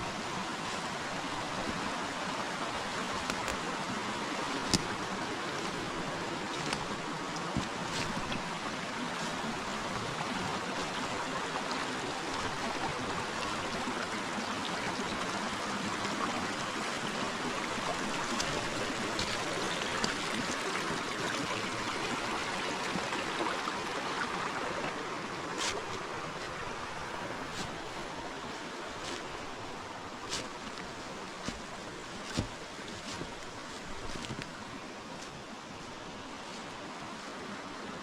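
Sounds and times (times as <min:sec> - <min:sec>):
river water over stones: 0:00.0 - 0:38.0.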